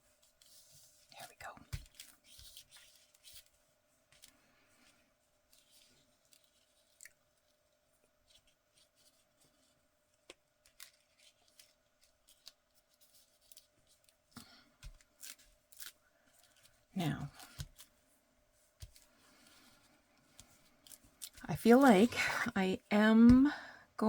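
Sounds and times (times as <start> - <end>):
paper and tools rustling: 0.0 - 22.5.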